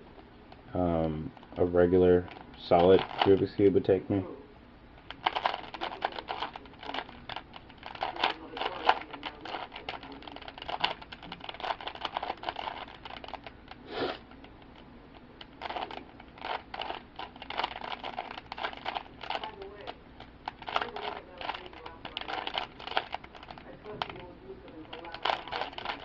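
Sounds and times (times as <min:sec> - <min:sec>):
plastic puzzle cube clicking: 0:02.3 - 0:03.4, 0:05.1 - 0:14.8, 0:15.4 - 0:26.0.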